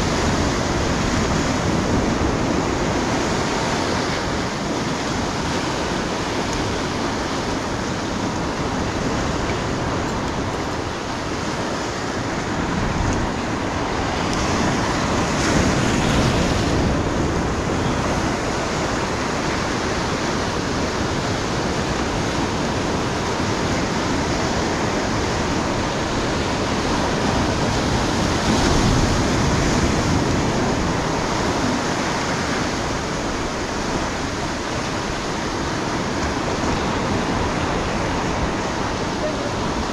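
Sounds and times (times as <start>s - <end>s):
surf breaking on rocks: 0.0s - 39.9s.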